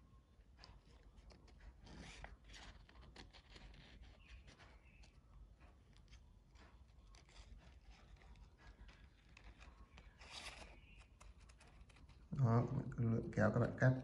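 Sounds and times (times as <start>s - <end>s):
paper rustling: 0.5s - 12.4s.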